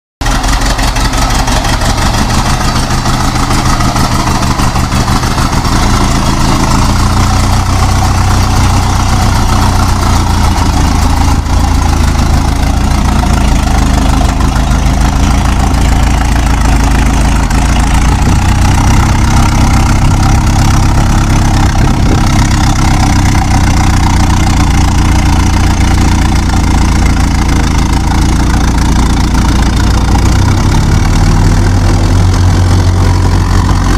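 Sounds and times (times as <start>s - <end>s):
old car engine idling: 0.2s - 33.9s.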